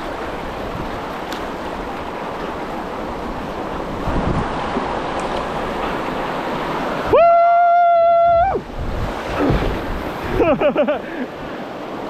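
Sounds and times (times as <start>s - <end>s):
river water rushing over rapid: 0.0s - 12.0s.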